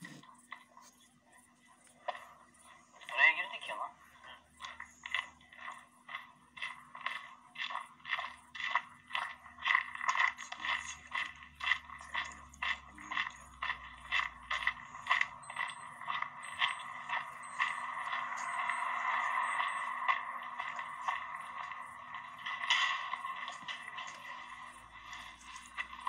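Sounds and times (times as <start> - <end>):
footsteps on gravel: 4.3 - 26.0.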